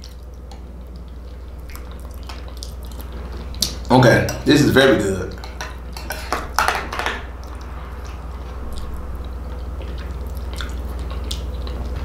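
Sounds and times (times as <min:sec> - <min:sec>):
faint chewing and mouth sounds: 0:00.0 - 0:04.5, 0:05.3 - 0:12.0
steady low hum: 0:00.0 - 0:12.0.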